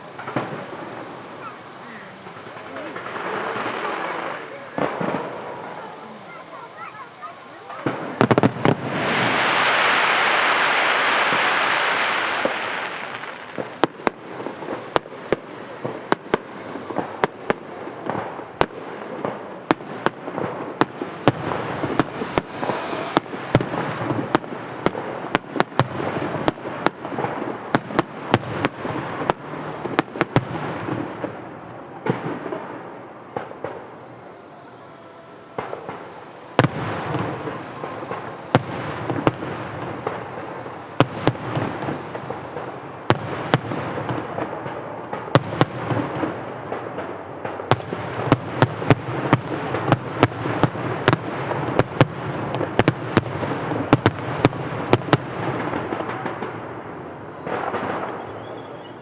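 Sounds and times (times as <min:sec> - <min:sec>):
firework rushing hiss: 0:00.0 - 0:58.2
firework bangs and crackles: 0:00.0 - 0:59.0.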